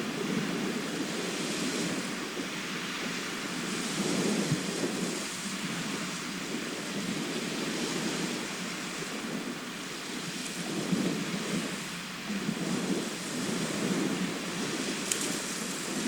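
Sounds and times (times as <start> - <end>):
waves washing on shore: 0.0 - 16.0.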